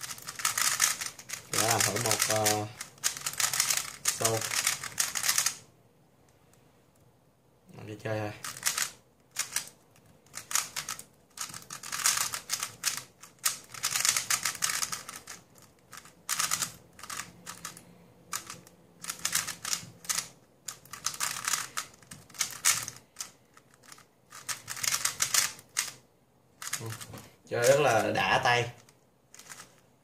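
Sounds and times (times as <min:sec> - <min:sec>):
puzzle cube plastic clicking: 0:00.0 - 0:05.6, 0:08.4 - 0:26.0, 0:26.6 - 0:28.0, 0:28.8 - 0:29.9.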